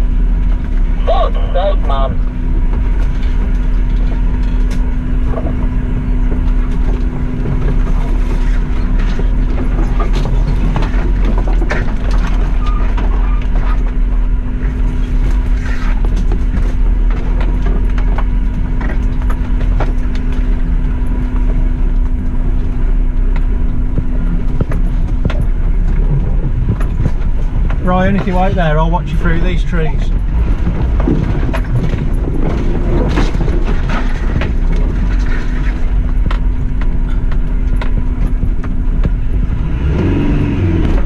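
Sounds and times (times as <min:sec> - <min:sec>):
knocks and crunches over rough ground: 0:00.0 - 0:41.0
vehicle engine low drone: 0:00.0 - 0:41.0.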